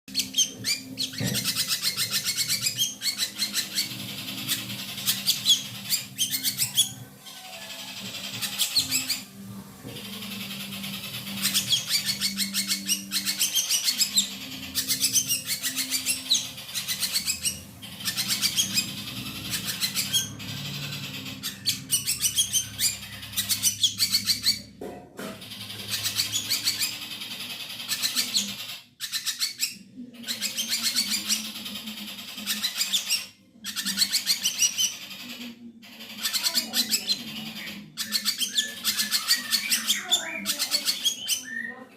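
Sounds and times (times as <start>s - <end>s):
bird chattering song: 0.1s - 41.9s.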